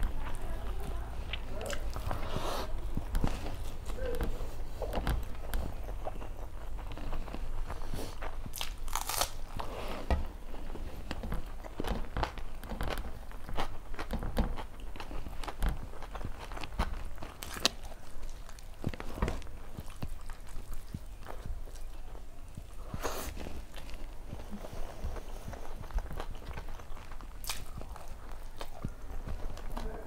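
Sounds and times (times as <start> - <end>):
person biting and chewing food: 1.2 - 30.0.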